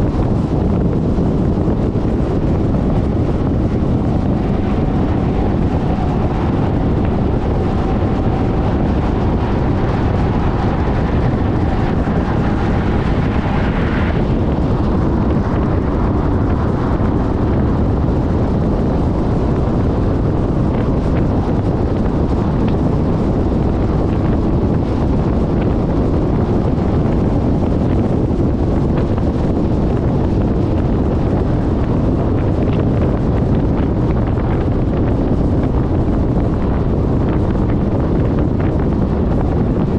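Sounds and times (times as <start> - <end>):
scooter motor and road noise: 0.0 - 39.9
wind buffeting microphone: 0.0 - 39.9.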